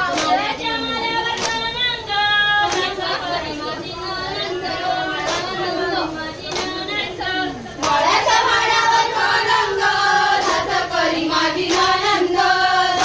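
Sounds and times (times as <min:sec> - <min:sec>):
hand-clapping to the beat: 0:00.0 - 0:13.0
women singing in chorus: 0:00.0 - 0:13.0.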